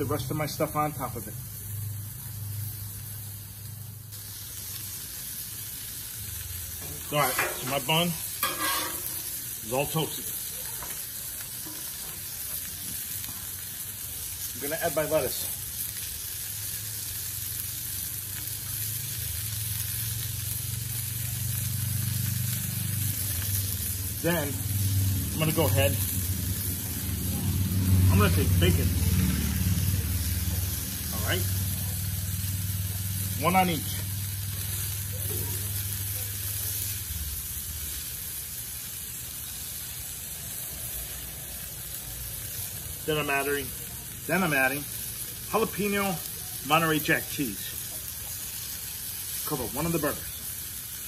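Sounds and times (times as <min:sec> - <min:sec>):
burger patties sizzling on griddle: 0:00.0 - 0:51.0.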